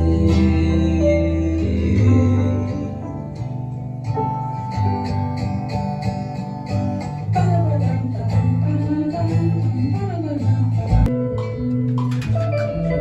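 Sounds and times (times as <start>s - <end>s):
guitar sustained chords: 0.0s - 13.0s
live band music: 0.0s - 13.0s.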